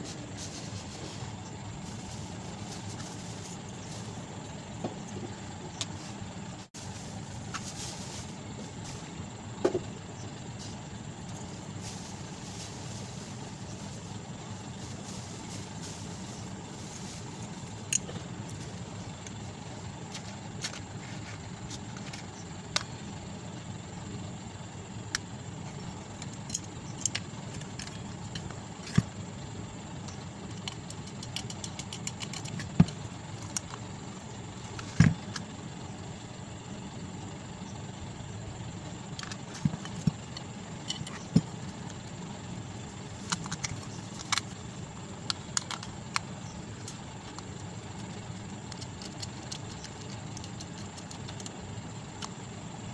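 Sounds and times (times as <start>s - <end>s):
low background hum: 0.0s - 52.9s.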